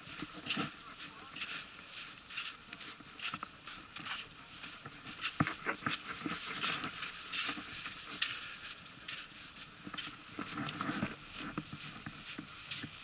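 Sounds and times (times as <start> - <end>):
footsteps on sand: 0.0 - 13.0
trekking poles striking sand: 0.0 - 13.0.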